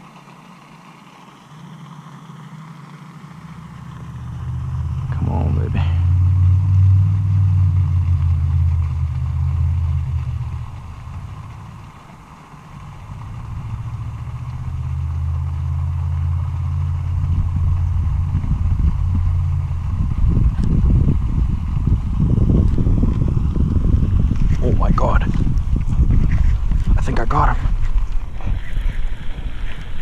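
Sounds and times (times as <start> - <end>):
passing road traffic hum: 1.6 - 30.0.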